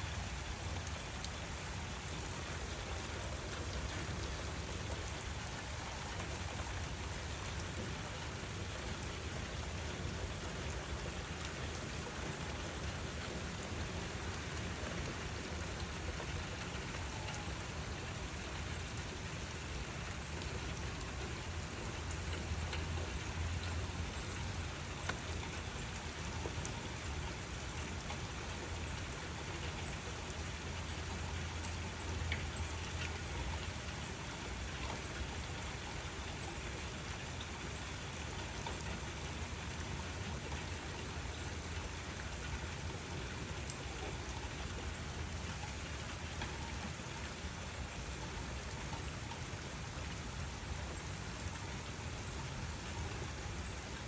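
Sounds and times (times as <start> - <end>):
rain hissing: 0.0 - 54.0
raindrop ticks: 0.2 - 54.0.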